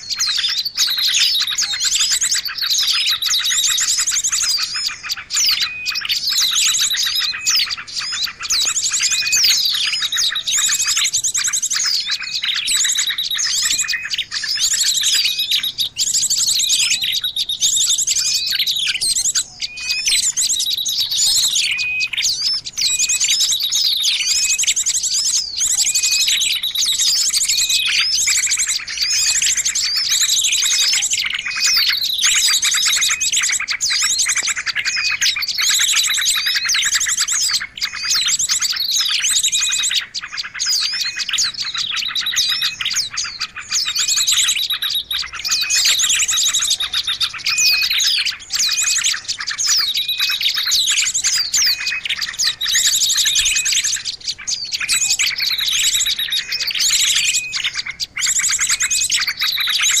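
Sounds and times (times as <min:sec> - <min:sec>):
small songbirds chirping: 0:00.0 - 1:00.0.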